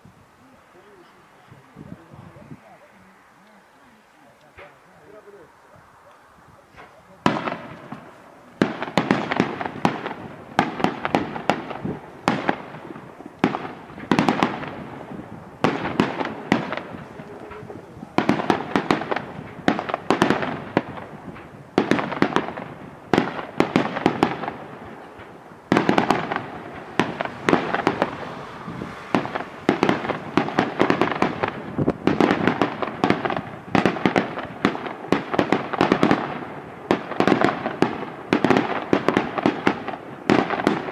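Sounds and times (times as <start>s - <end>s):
fireworks bangs and crackling: 0.8s - 40.9s.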